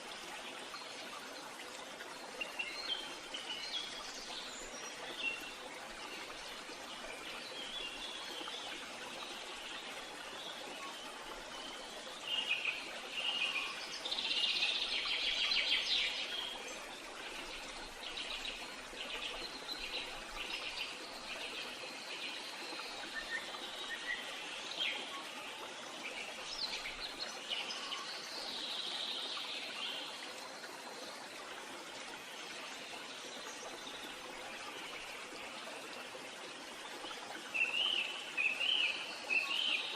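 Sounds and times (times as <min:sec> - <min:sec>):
flowing water hiss: 0:00.0 - 0:39.9.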